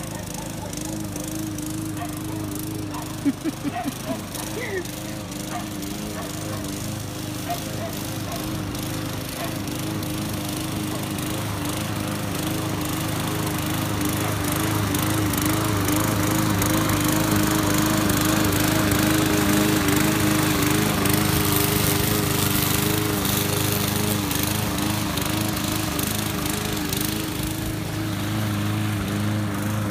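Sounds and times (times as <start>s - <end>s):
push mower cutting grass: 0.0s - 29.9s.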